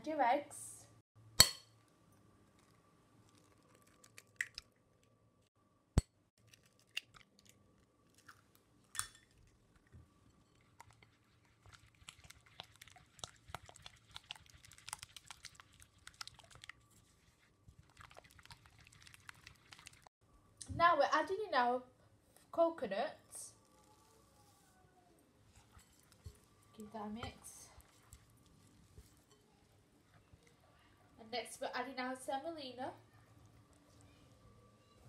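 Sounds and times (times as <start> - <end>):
soft wet mixing: 1.8 - 5.2, 6.4 - 20.1, 23.5 - 35.0.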